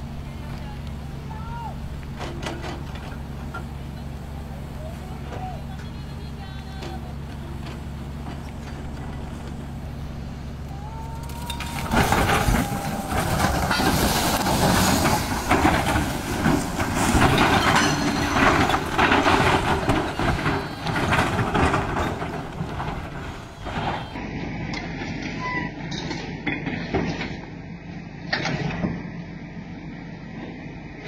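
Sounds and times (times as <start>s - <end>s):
heavy vehicle engine running: 0.0s - 31.0s
rumbling and clattering with scraping: 0.0s - 31.0s.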